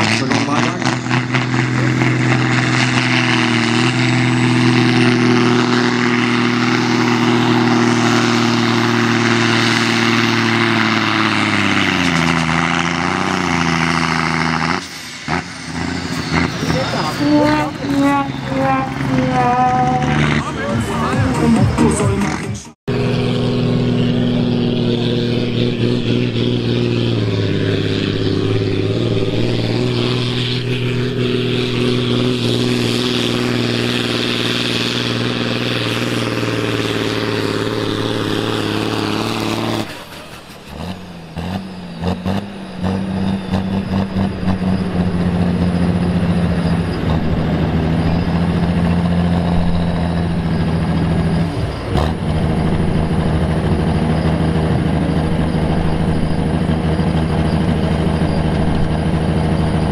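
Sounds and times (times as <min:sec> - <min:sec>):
diesel tractor engine at full throttle: 0:00.0 - 0:59.9
tractor diesel revving: 0:00.0 - 0:59.9.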